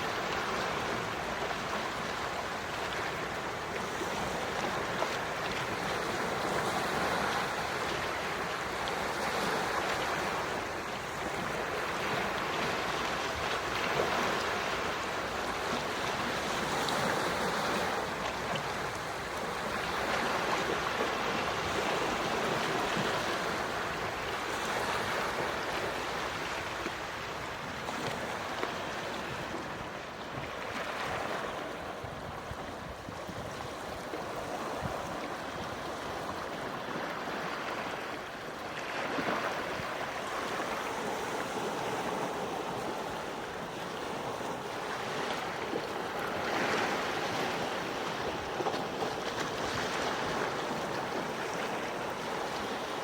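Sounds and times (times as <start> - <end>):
waves washing onto shore: 0.0 - 53.0.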